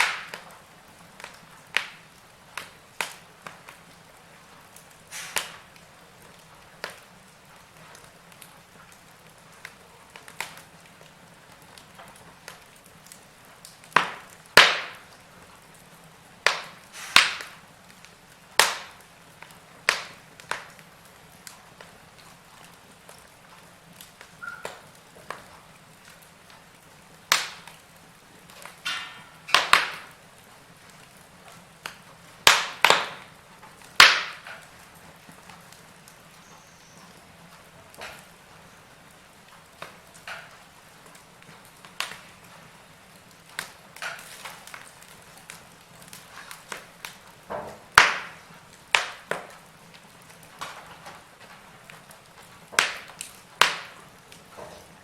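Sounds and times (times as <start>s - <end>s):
low steady hiss: 0.0s - 55.0s
wood fire crackling: 0.0s - 55.0s.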